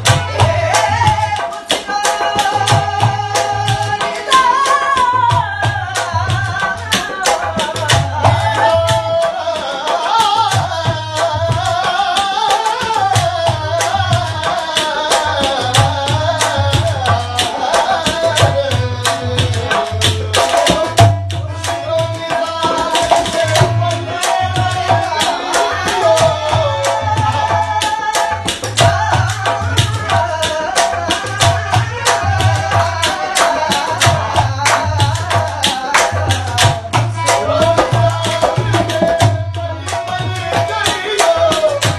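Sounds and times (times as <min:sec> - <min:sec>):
man singing ornamented melody: 0:00.0 - 0:41.9.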